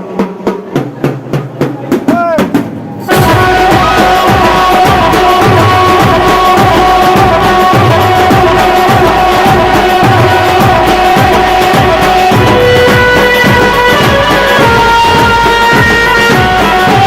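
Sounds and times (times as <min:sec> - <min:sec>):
band music track: 0:00.1 - 0:17.0
ringtone drum beat: 0:01.4 - 0:17.0.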